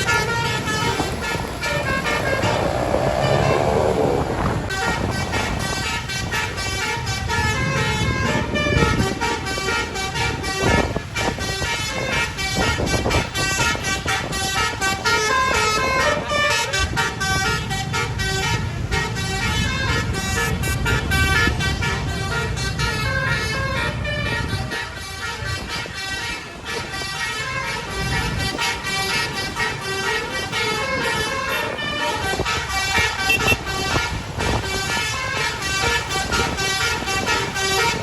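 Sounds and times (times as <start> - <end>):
bus engine rumble: 0.0 - 38.0
musical bus air horn: 0.0 - 38.0.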